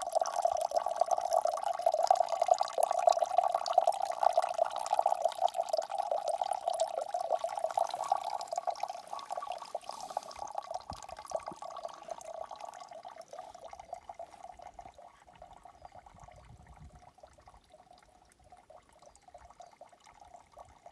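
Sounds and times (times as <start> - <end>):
water trickling and dripping: 0.0 - 20.9.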